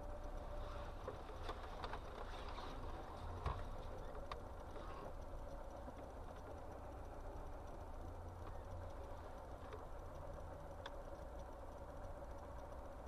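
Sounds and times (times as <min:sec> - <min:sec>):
car rumble from inside cabin: 0:00.0 - 0:13.0
small clicks and knocks: 0:00.0 - 0:13.0.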